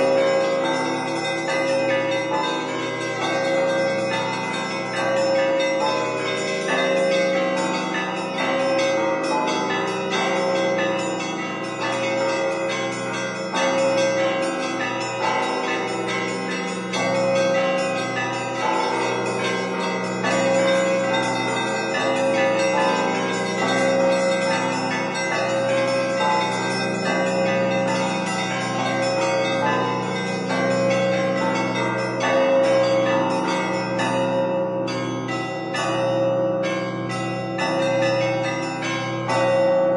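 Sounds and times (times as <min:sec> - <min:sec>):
deep bells ringing: 0:00.0 - 0:39.9
small bells chiming rapidly: 0:00.0 - 0:39.9.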